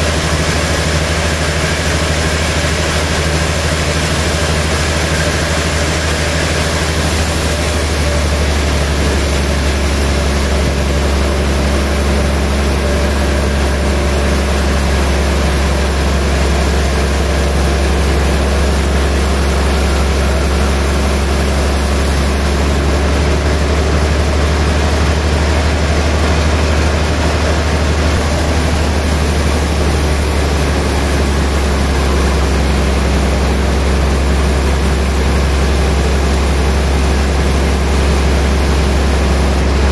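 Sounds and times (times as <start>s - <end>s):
band saw humming: 0.0s - 39.9s.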